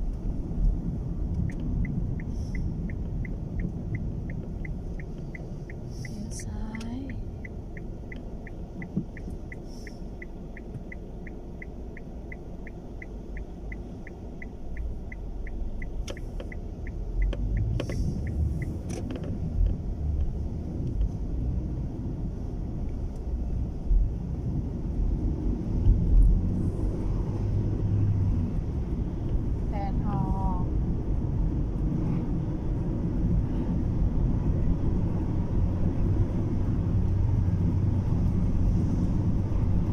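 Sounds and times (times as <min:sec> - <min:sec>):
car road rumble: 0:00.0 - 0:39.9
turn signal ticking: 0:00.0 - 0:39.9.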